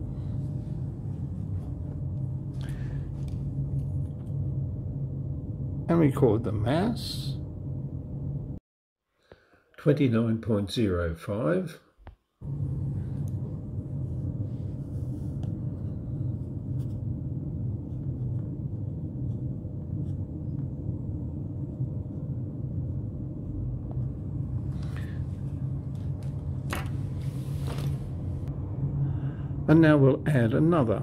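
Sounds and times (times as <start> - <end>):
steady low hum: 0.0 - 8.6, 12.4 - 31.0.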